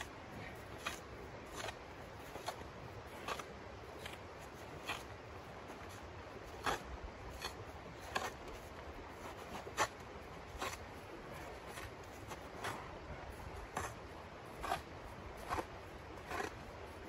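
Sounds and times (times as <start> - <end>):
hand tool scraping snow: 0.0 - 17.0.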